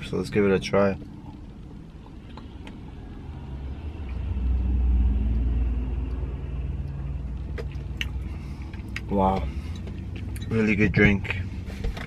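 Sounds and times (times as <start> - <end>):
passing vehicle rumble: 1.0 - 11.9.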